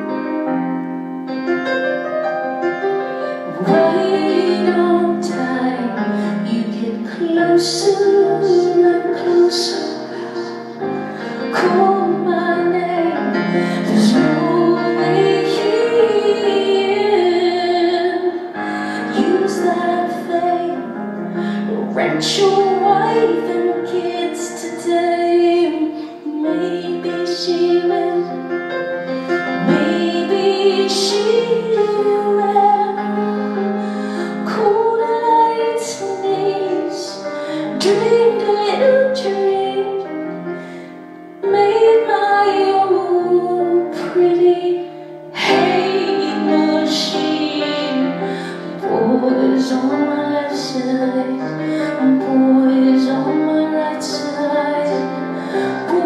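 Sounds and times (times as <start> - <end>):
instrumental backing music: 0.0 - 56.0
woman singing: 3.4 - 28.8, 29.5 - 40.6, 41.4 - 56.0.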